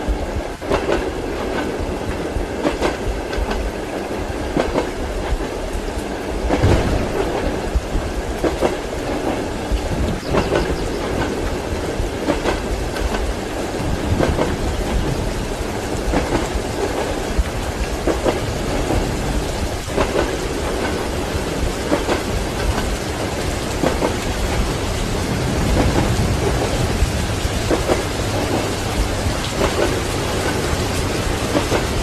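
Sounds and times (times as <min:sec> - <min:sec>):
steady rain: 0:00.0 - 0:32.0
thunder rumbling: 0:00.0 - 0:32.0
train wheels knocking on rails: 0:00.0 - 0:32.0.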